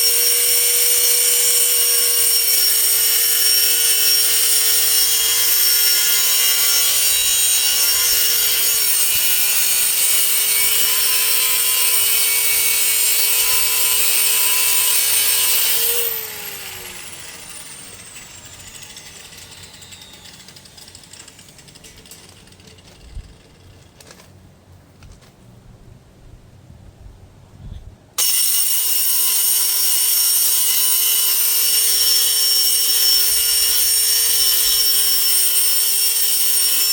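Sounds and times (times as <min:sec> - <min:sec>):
angle grinder cutting metal: 0:00.0 - 0:23.0, 0:28.2 - 0:36.9.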